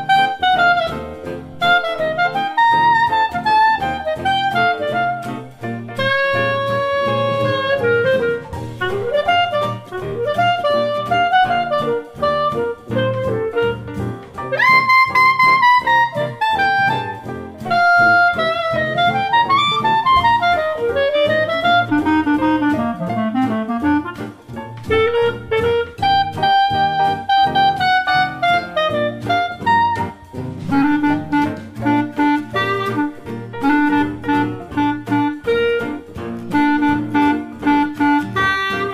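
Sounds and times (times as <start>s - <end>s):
jazz rhythm section: 0.0s - 38.9s
jazz saxophone melody: 0.0s - 38.9s.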